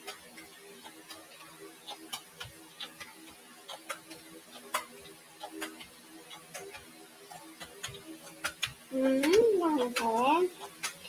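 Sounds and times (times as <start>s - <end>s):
cards clicking on a table: 1.9s - 11.0s.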